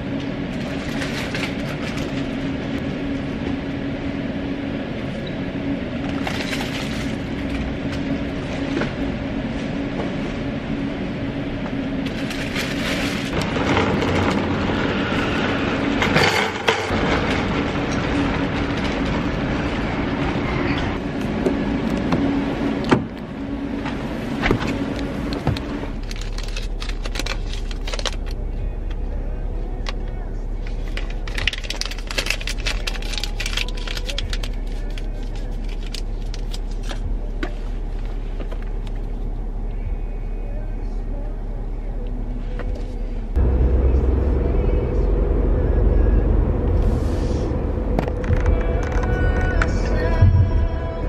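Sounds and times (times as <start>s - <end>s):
train rumbling: 0.0s - 40.0s, 42.4s - 51.0s.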